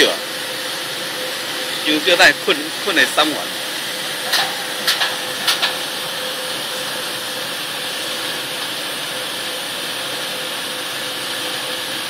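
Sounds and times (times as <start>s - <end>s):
faint constant hum: 0.0s - 11.4s
hissing industrial machinery: 0.0s - 12.0s.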